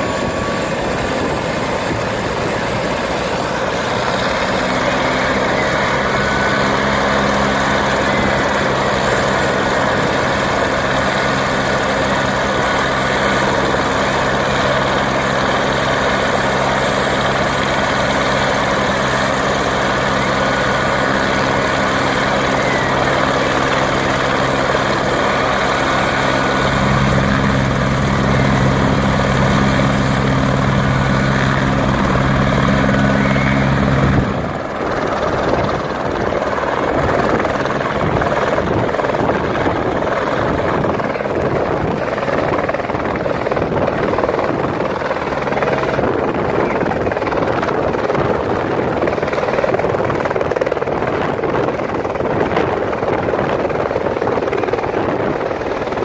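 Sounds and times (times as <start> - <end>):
helicopter rotor drone: 0.0 - 56.0.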